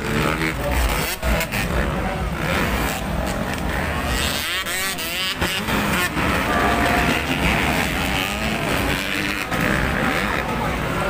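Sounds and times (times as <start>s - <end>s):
background rush of noise: 0.0s - 11.0s
dirt bike engines revving: 0.0s - 11.0s.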